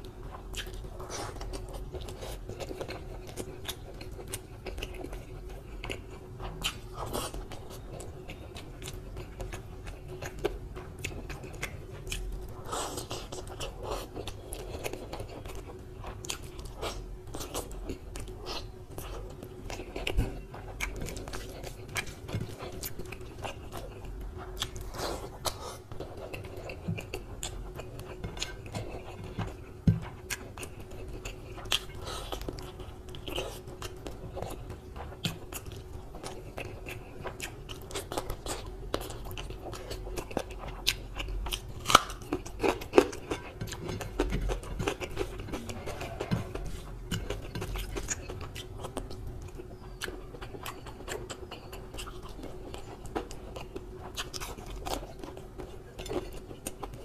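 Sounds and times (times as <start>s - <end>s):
close chewing and biting: 0.0s - 57.0s
faint steady hum: 0.0s - 57.0s.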